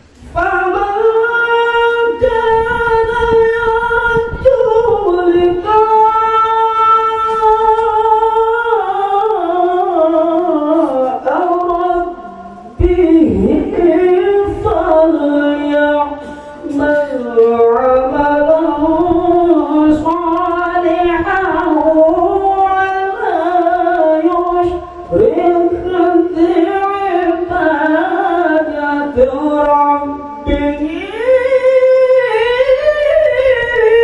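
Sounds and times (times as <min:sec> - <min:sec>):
man reciting melodically: 0:00.0 - 0:34.0.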